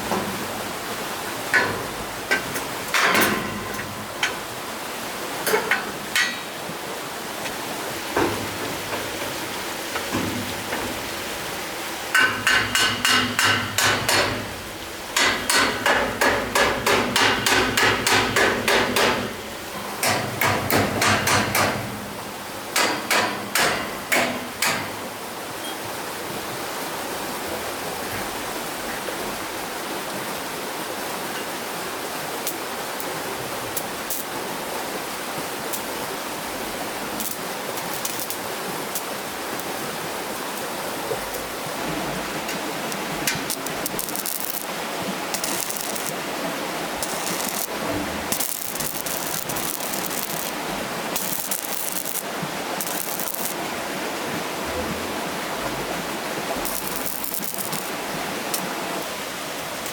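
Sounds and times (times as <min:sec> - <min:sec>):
flowing water: 0:00.0 - 0:59.9.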